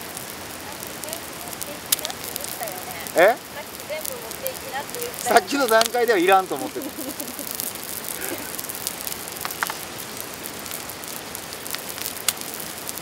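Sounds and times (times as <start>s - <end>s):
fat popping and crackling: 0.0s - 13.0s
fish sizzling in a pan: 0.0s - 13.0s
mountain stream rushing: 0.0s - 13.0s.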